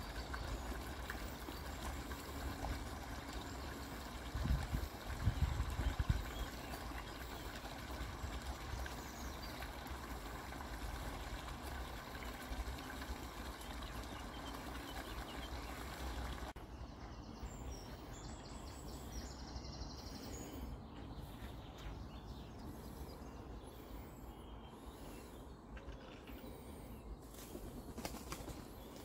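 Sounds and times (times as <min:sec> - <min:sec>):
brook running: 0:00.0 - 0:27.1.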